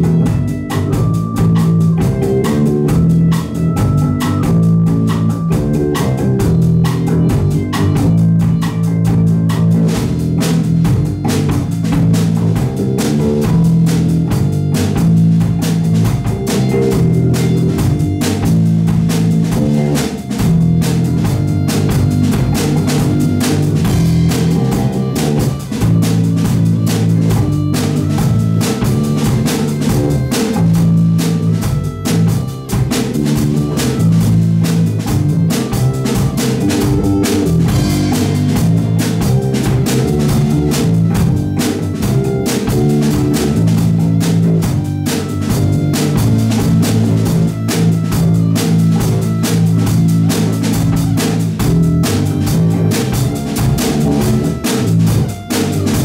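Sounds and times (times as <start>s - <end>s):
drum kit playing: 0.0s - 56.0s
guitar playing: 0.0s - 56.0s
keyboard playing: 0.0s - 56.0s
repeating low riff: 0.0s - 56.0s.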